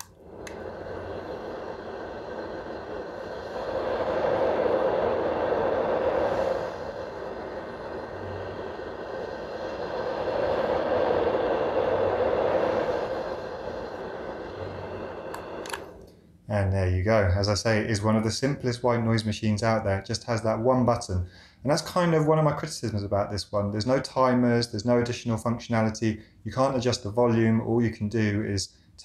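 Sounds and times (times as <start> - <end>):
white noise machine hiss: 0.0 - 29.0.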